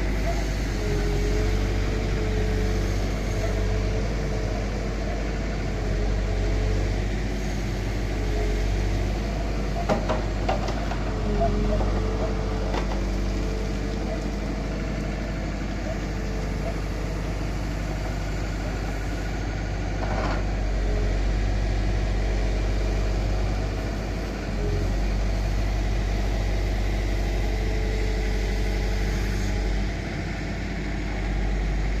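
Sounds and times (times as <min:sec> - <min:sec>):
excavator diesel engine running: 0:00.0 - 0:32.0
hydraulics working: 0:00.0 - 0:32.0.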